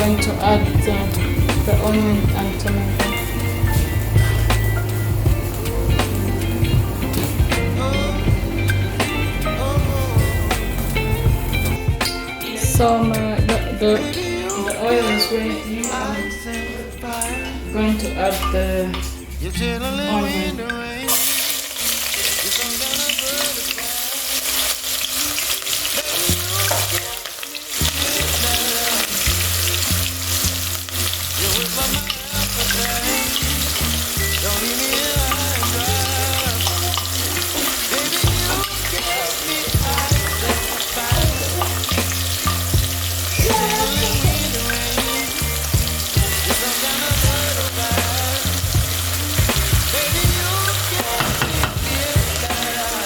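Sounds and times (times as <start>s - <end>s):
onion sizzling in oil: 0.0s - 11.8s, 21.0s - 53.0s.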